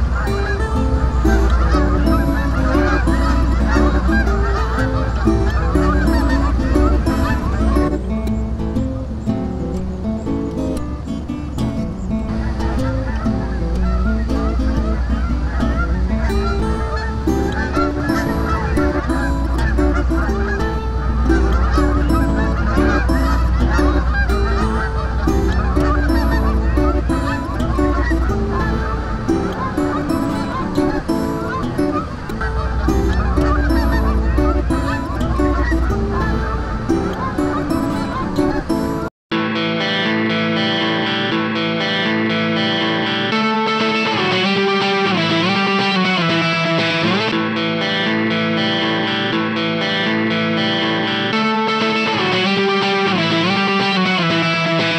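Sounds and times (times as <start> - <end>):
geese honking: 0.0 - 8.6, 12.0 - 39.1, 40.4 - 54.9.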